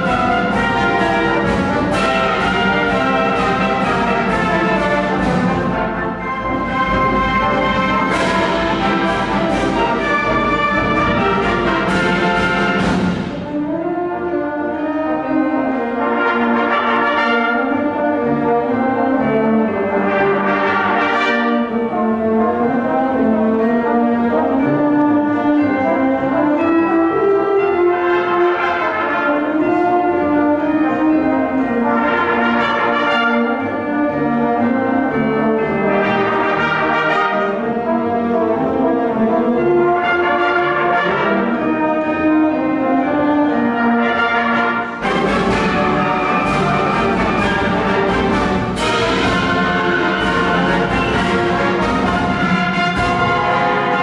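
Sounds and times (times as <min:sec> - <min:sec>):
concert band playing: 0:00.0 - 0:54.0.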